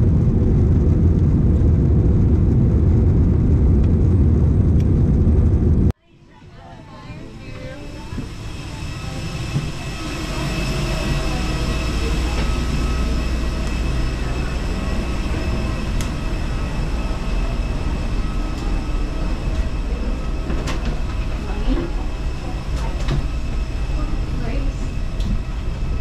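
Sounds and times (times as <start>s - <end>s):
machinery rumble with high whine: 0.0s - 26.0s.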